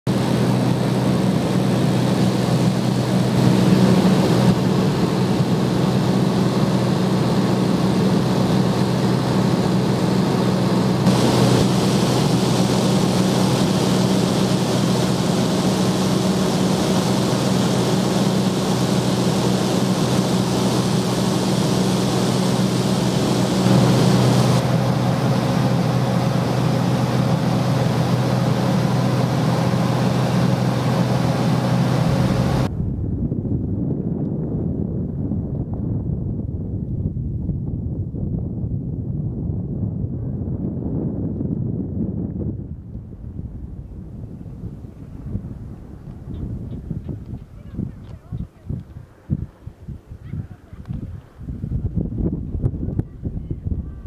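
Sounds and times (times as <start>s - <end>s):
propeller aircraft engine drone: 0.0s - 52.6s.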